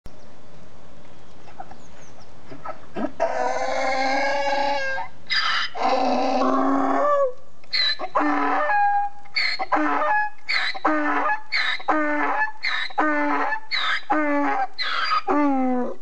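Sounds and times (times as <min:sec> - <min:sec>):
donkey braying: 0:02.5 - 0:16.0.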